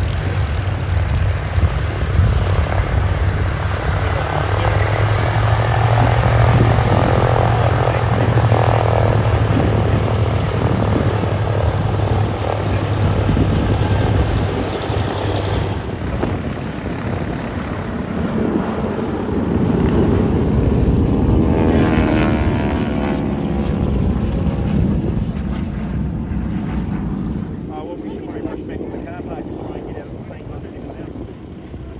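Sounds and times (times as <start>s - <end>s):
propeller aircraft engine drone: 0.0s - 31.9s.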